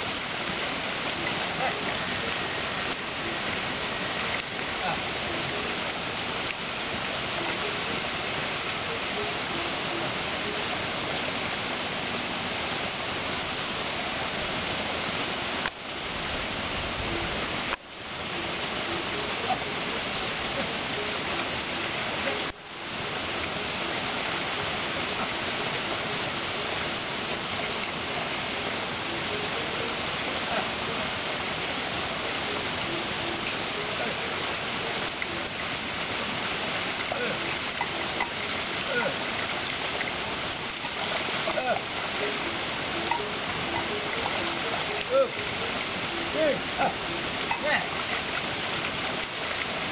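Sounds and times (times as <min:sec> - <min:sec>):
water rushing through paddy: 0:00.0 - 0:49.9.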